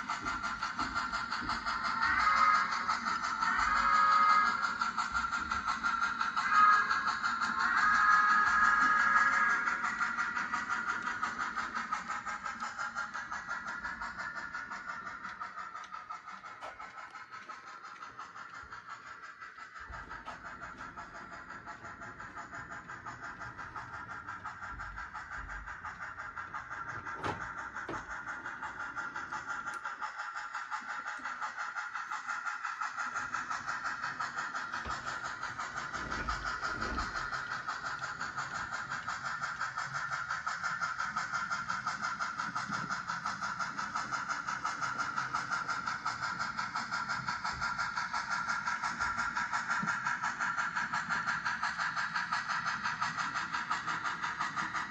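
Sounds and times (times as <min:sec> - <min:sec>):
model locomotive whirring: 0:00.0 - 0:54.9.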